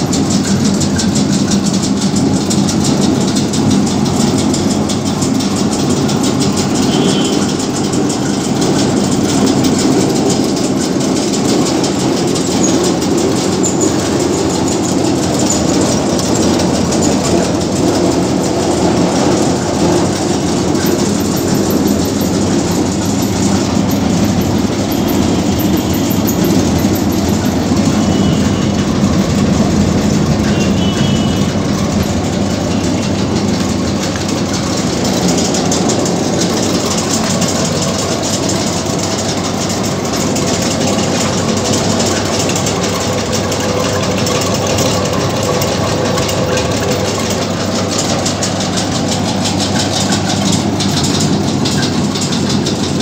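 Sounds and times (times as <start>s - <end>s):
thresher machine humming and rattling: 0.0s - 53.0s.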